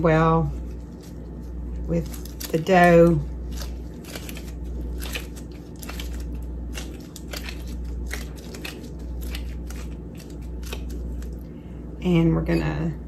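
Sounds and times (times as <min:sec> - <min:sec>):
gloves and dough crackling: 0:00.0 - 0:13.0
steady low hum: 0:00.0 - 0:13.0.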